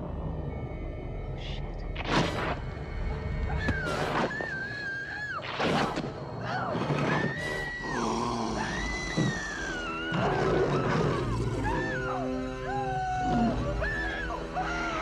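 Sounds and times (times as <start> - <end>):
tense orchestral music: 0.0 - 15.0.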